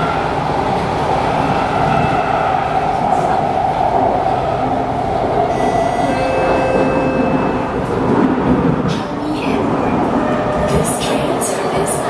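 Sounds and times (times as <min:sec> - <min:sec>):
train cabin hum and rush: 0:00.0 - 0:12.0.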